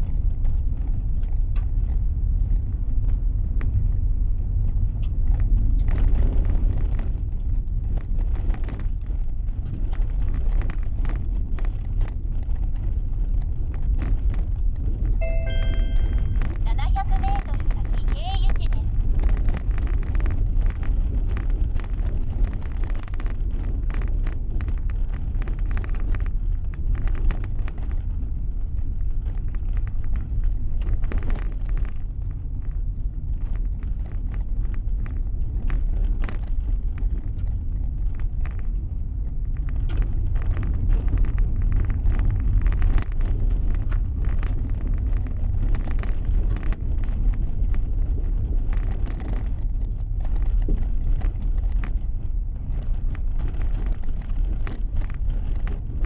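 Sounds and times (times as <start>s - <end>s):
small ticks and crackles: 0.0s - 15.2s, 19.3s - 56.0s.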